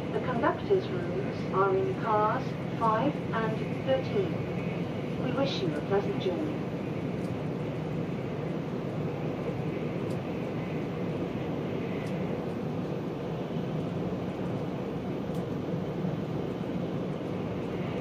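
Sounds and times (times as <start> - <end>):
train cabin rumble: 0.0 - 18.0.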